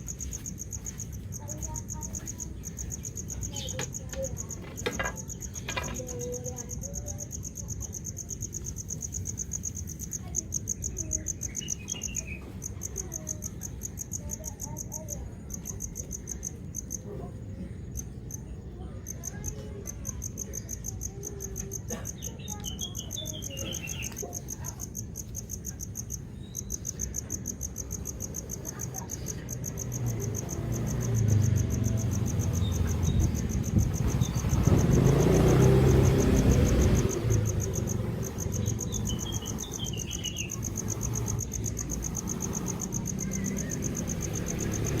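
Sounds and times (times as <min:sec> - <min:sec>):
insects trilling: 0:00.0 - 0:45.0.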